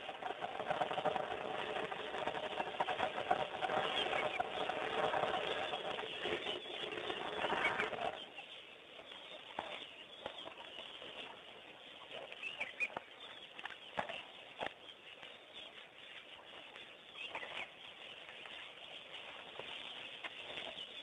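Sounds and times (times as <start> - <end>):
bird chirps: 3.7 - 21.0.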